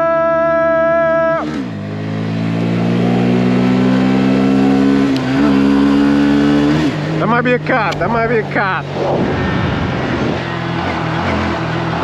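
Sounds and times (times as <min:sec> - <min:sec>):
mini bike engine revving: 0:00.7 - 0:12.0.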